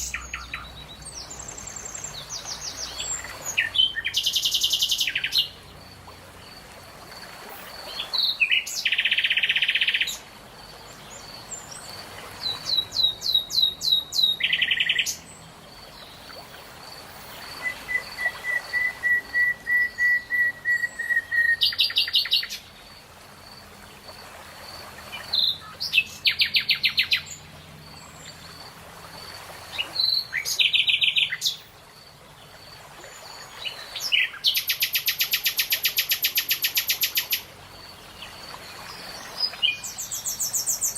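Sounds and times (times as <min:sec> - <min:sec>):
songbirds trilling and chirping: 0:00.0 - 0:40.9.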